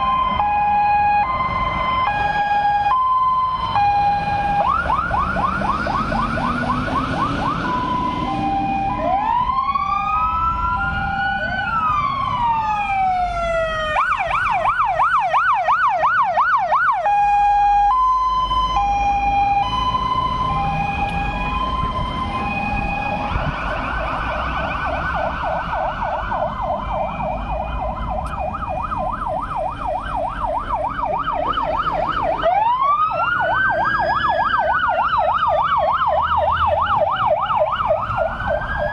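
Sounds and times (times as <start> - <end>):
fire engine sirens: 0.0 - 38.9
truck engines running: 0.0 - 38.9.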